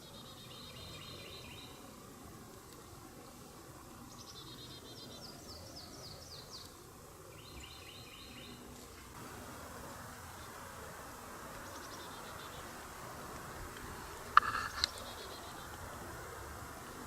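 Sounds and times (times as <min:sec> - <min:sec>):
small songbirds singing: 0:00.0 - 0:02.0, 0:04.0 - 0:08.8, 0:09.8 - 0:17.0
outdoor background hiss: 0:00.0 - 0:17.0.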